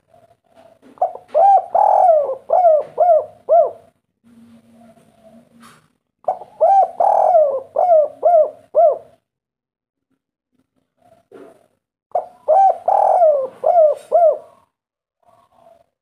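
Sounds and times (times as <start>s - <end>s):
dove cooing: 0.0s - 5.7s, 6.3s - 9.3s, 11.0s - 16.0s.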